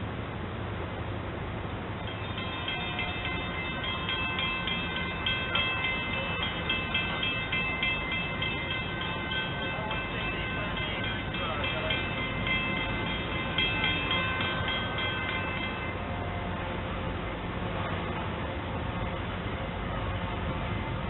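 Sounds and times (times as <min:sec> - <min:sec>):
railroad bell ringing: 0:02.0 - 0:21.0.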